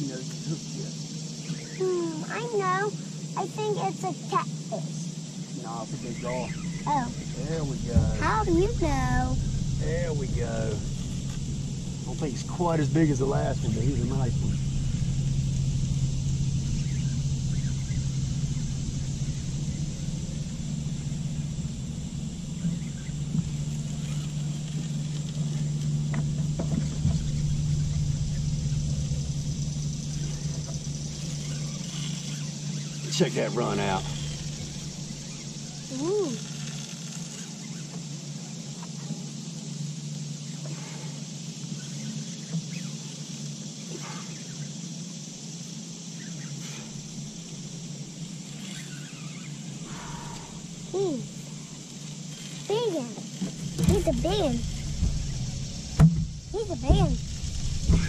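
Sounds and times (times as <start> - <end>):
faint bird chirps: 0.0 - 12.3, 12.9 - 25.8, 26.8 - 58.0
boat motor humming: 0.0 - 58.0.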